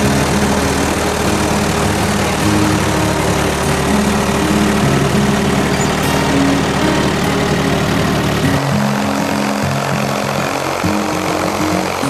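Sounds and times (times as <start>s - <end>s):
background music: 0.0s - 12.0s
tractor engine idling: 0.0s - 12.0s.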